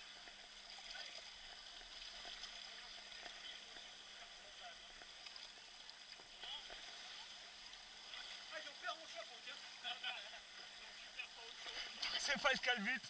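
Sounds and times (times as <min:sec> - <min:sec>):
water trickling and sloshing: 0:00.0 - 0:13.0.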